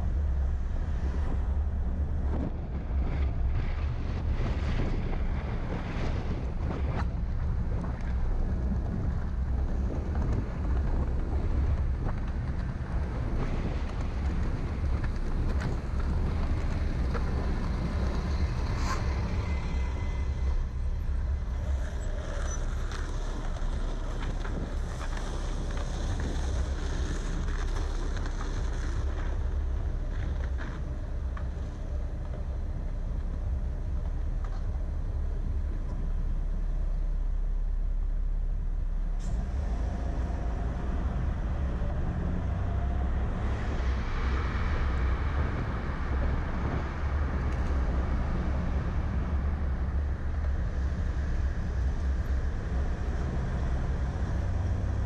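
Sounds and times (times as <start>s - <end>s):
bus passing: 0.0s - 37.4s, 38.5s - 55.0s
wind on microphone: 0.0s - 37.4s, 39.1s - 55.0s
car low rumble: 0.0s - 55.0s
city traffic: 0.0s - 55.0s.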